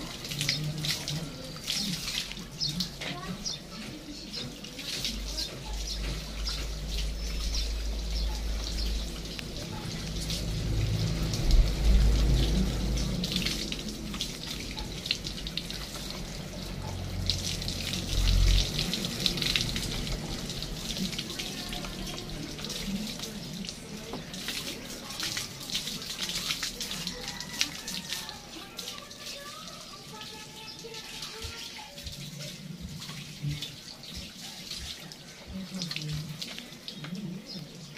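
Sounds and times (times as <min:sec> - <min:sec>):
hose water splashing on motorcycle: 0:00.0 - 0:37.9.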